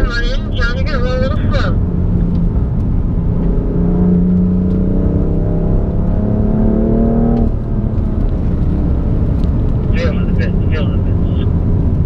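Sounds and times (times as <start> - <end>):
steady low rumble: 0.0 - 6.8, 7.4 - 12.0
car engine accelerating hard: 0.0 - 12.0.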